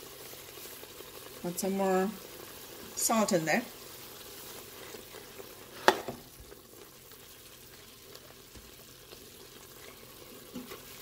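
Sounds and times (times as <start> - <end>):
sauce frying in a pot: 0.0 - 11.0.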